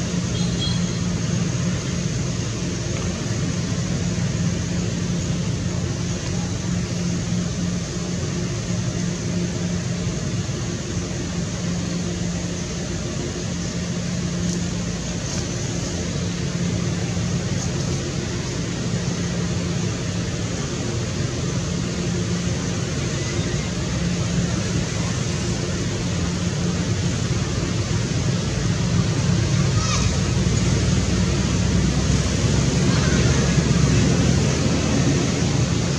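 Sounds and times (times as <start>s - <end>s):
mechanical hum: 0.0s - 35.9s.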